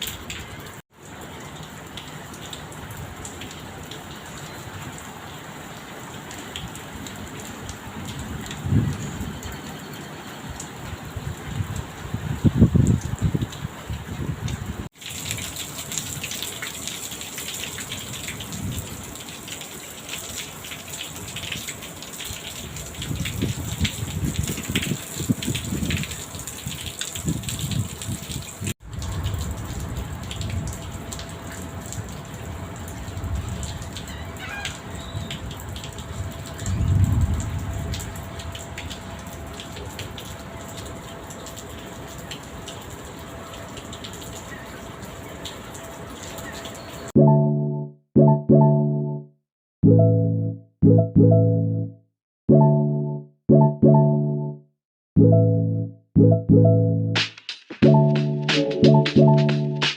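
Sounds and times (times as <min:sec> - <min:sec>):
rain pattering: 0:00.0 - 0:47.2, 0:57.5 - 0:59.9.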